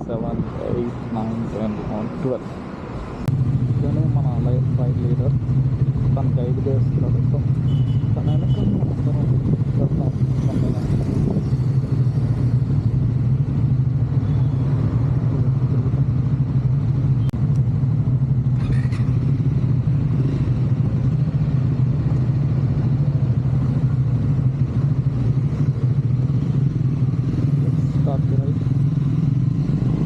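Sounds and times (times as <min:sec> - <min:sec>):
motorcycle engine running: 0:03.3 - 0:30.0.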